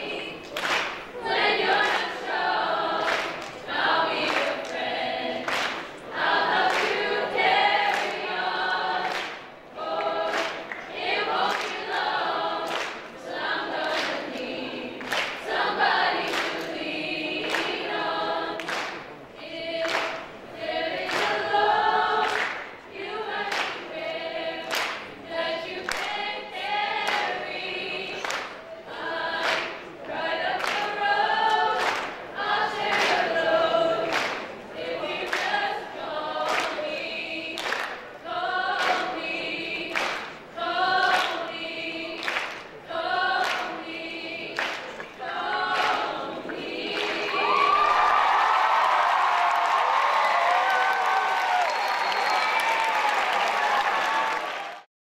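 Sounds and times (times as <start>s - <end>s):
choir singing in unison: 0.0s - 51.7s.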